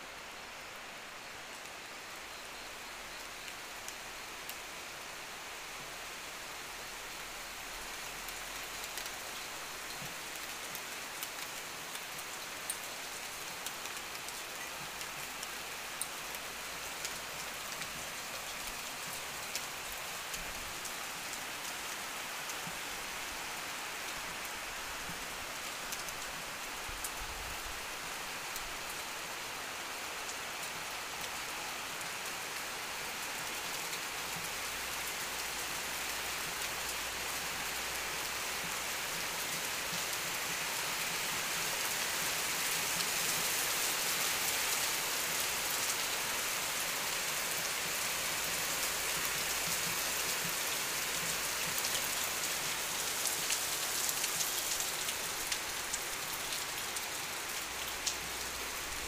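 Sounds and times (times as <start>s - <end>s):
heavy rain on trees and ground: 0.0s - 59.0s.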